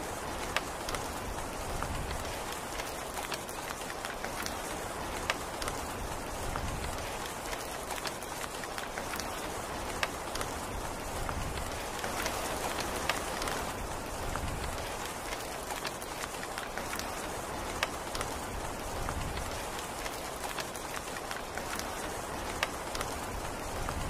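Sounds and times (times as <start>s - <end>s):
rain hissing: 0.0s - 24.0s
raindrops striking close by: 0.0s - 24.0s.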